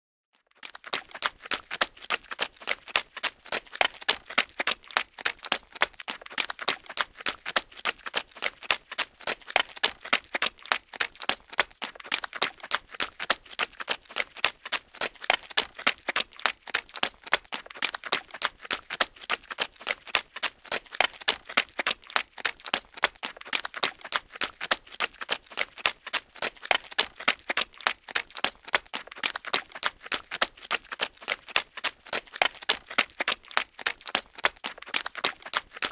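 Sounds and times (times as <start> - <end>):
footsteps running through mud: 0.6 - 35.9.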